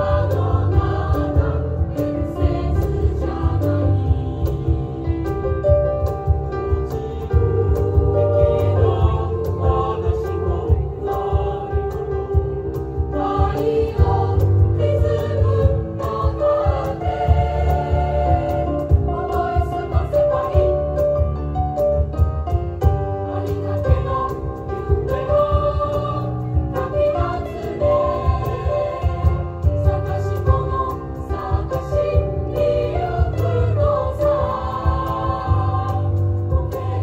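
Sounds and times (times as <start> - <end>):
mixed choir singing in harmony: 0.0 - 37.0.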